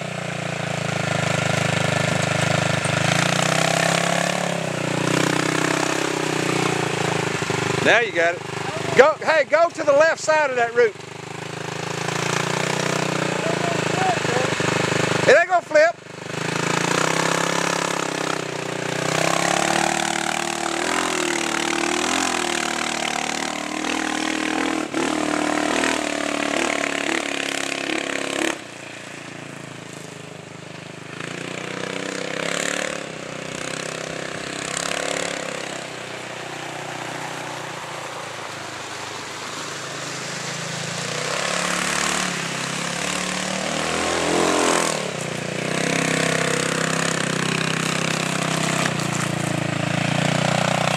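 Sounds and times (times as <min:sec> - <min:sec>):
dune buggy engine revving: 0:00.0 - 0:50.9.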